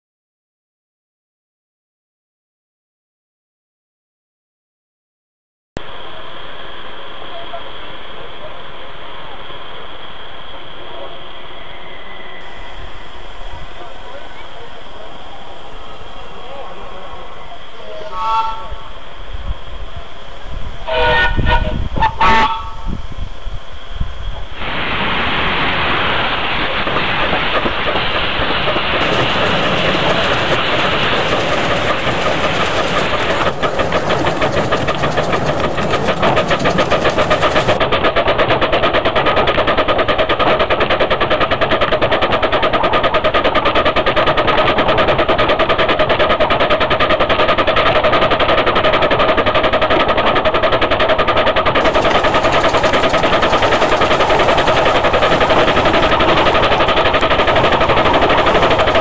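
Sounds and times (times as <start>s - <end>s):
miniature steam train running: 5.8s - 24.8s, 25.4s - 59.0s.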